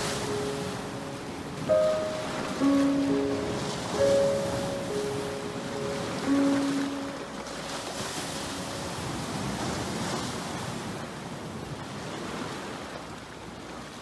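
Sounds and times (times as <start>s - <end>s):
ocean surf breaking over rocks: 0.0s - 14.0s.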